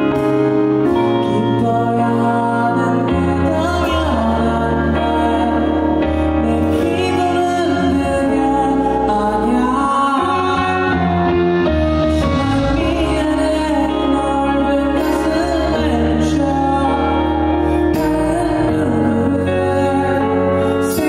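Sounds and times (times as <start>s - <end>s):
instrumental accompaniment: 0.0s - 21.0s
sustained bass notes: 0.0s - 21.0s
man singing into a microphone: 0.9s - 21.0s.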